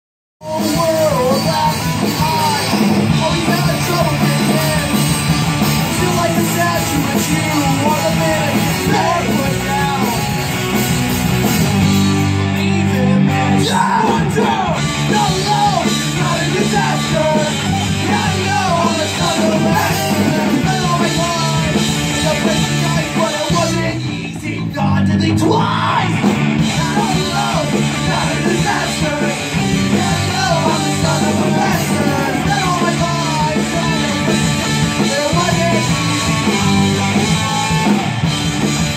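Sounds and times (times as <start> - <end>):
rock band playing live: 0.4 - 38.9.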